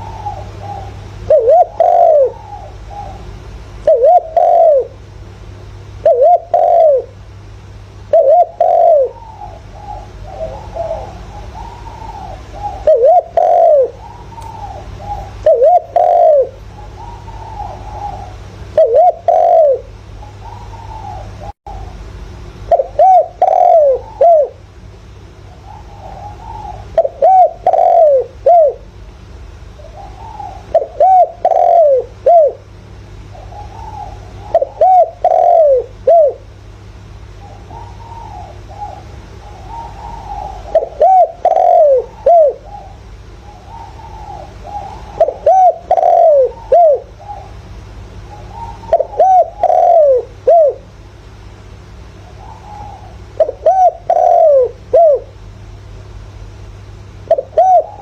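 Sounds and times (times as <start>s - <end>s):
dove cooing: 0.0s - 5.1s, 5.9s - 24.7s, 25.4s - 29.0s, 29.7s - 55.6s, 56.8s - 58.0s.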